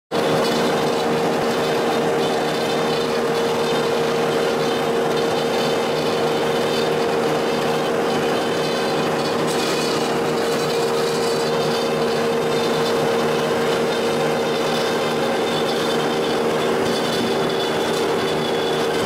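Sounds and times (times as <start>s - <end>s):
bandsaw running idle: 0.2s - 19.0s.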